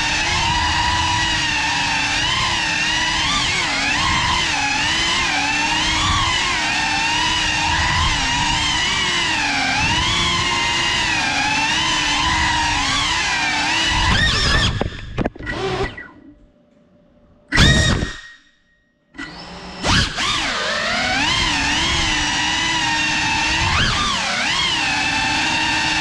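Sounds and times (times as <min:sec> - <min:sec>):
quadcopter motors whining: 0:00.0 - 0:16.3, 0:17.5 - 0:18.4, 0:19.2 - 0:26.0.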